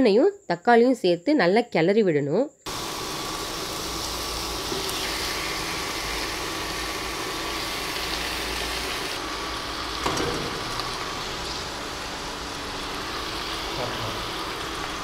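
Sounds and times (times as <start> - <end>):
chicken sizzling in a pan: 2.7 - 15.0
cooling fan humming: 2.7 - 15.0.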